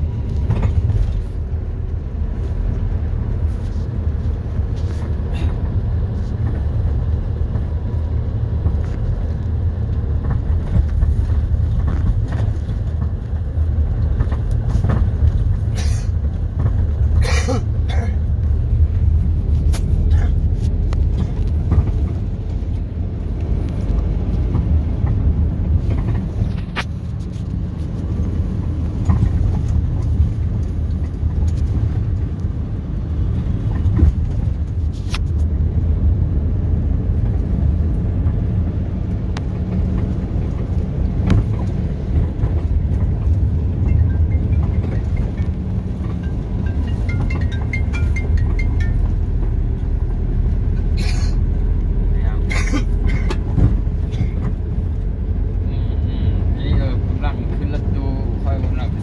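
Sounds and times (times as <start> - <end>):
road noise: 0.0 - 59.0
vehicle engine rumble: 0.0 - 59.0.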